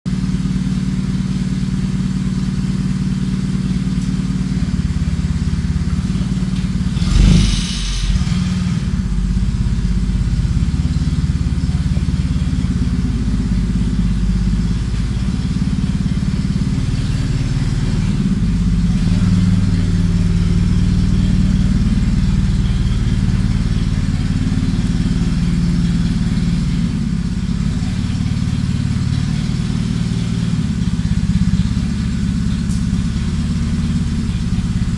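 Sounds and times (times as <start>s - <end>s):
forklift engine running: 0.1s - 34.9s.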